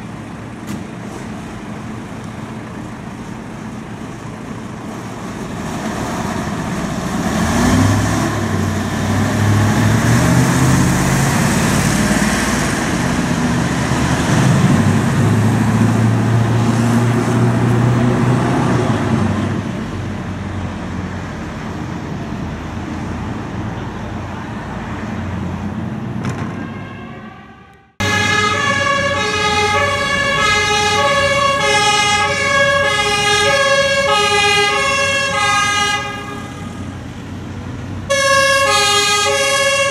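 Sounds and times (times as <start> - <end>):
road traffic noise: 0.0 - 39.9
vehicle engine passing: 5.5 - 26.7, 28.0 - 39.9.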